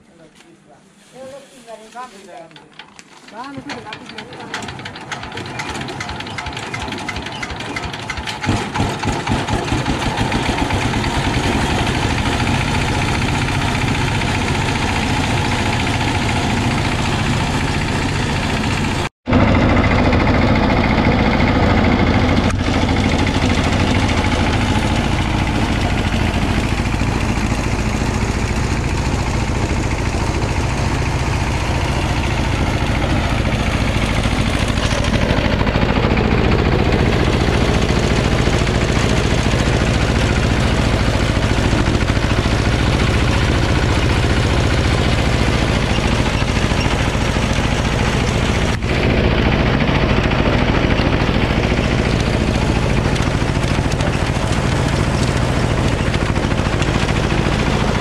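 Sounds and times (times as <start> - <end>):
diesel engine running: 2.5 - 58.0.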